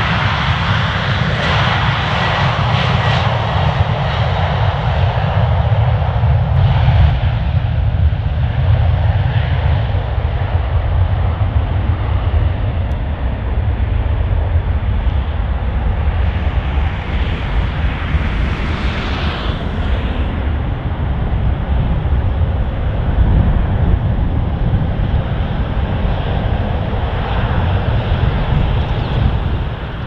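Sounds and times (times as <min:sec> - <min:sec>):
jet engines roaring at takeoff: 0:00.0 - 0:30.0.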